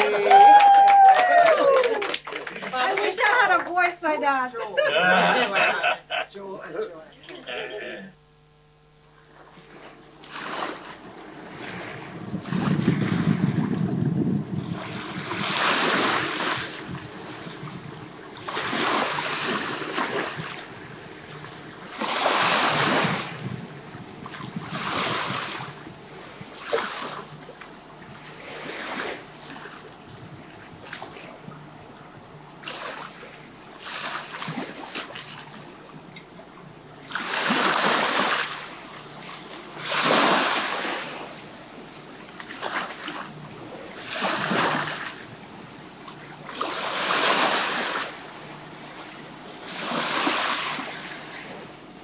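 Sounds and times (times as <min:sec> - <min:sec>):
faint steady hum: 0:00.0 - 0:52.0
rushing surf-like noise: 0:02.6 - 0:27.6, 0:28.2 - 0:29.9, 0:37.0 - 0:52.0.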